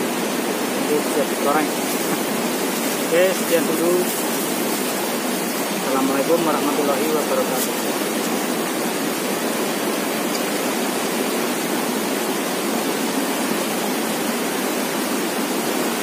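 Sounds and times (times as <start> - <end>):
river rapids rushing over rocks: 0.0 - 16.0.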